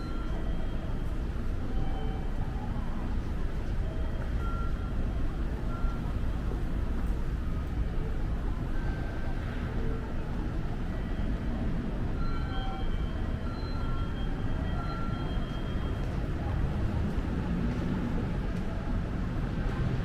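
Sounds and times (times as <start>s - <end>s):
vehicles rumbling: 0.0s - 20.0s.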